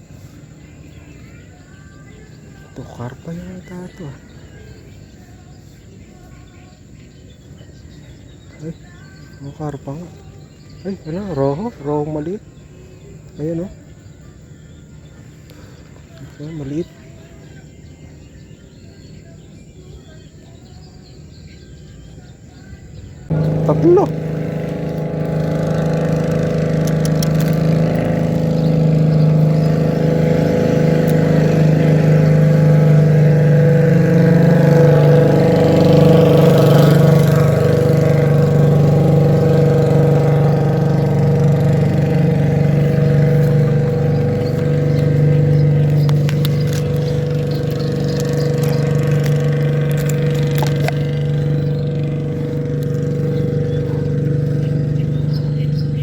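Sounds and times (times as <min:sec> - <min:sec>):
small engine running steadily: 0:00.0 - 0:56.0.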